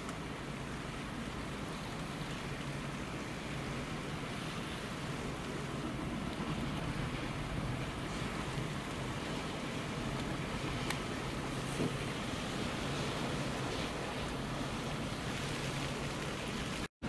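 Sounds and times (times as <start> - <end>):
rough sea rushing: 0.0 - 16.9
strong wind: 2.7 - 16.9.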